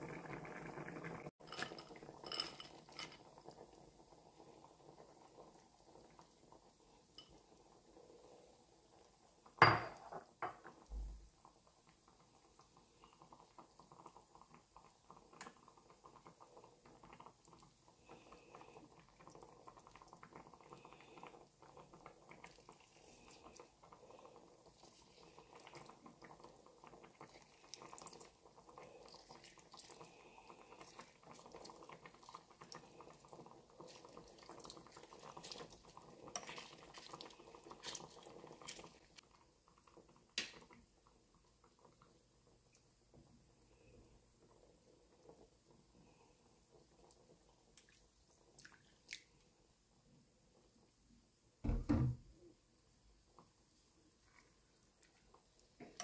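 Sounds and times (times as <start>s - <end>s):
stew bubbling in a pan: 0.0s - 56.0s.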